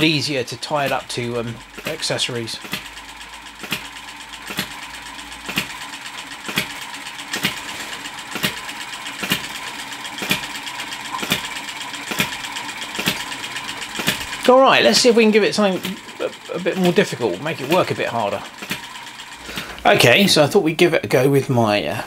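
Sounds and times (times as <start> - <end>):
small engine knocking and clicking: 0.0 - 20.8.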